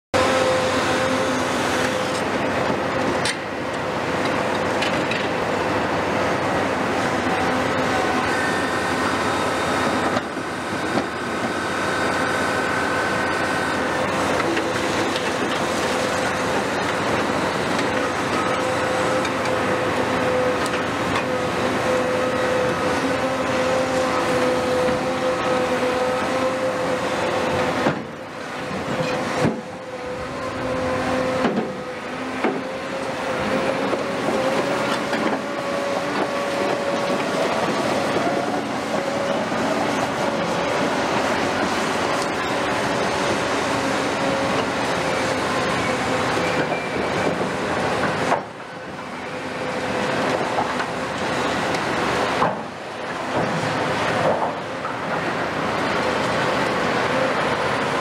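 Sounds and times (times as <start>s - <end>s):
diesel engine drone: 0.0s - 58.0s
hydraulic whine: 0.2s - 58.0s.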